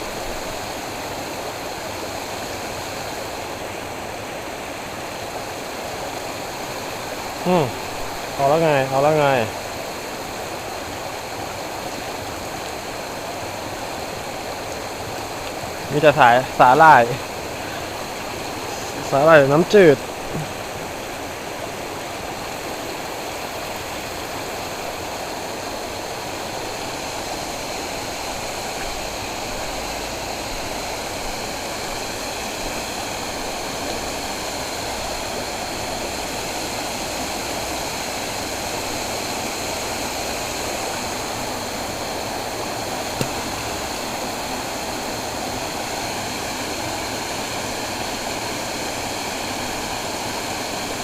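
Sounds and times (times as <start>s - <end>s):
water rushing in canal: 0.0s - 51.0s.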